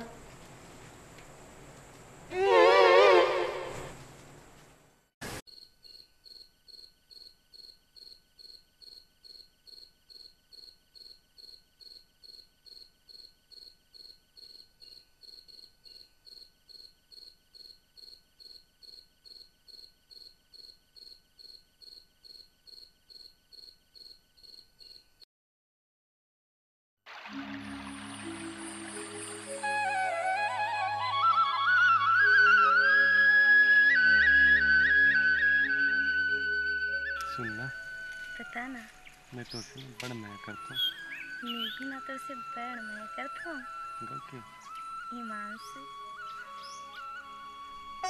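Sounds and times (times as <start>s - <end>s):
crickets chirping: 0.0s - 4.6s, 5.5s - 25.2s, 33.9s - 48.0s.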